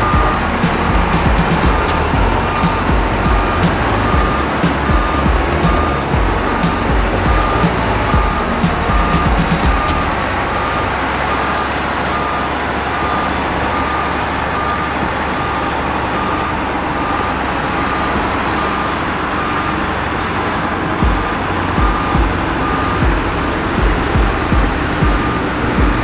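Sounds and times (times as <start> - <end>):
diesel engine running: 0.0 - 26.0
reversing alarm beeping: 0.0 - 26.0.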